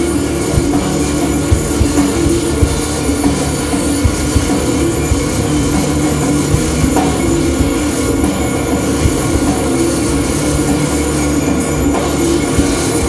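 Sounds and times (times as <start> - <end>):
drum kit: 0.0 - 13.0
synthesizer and bass drone: 0.0 - 13.0.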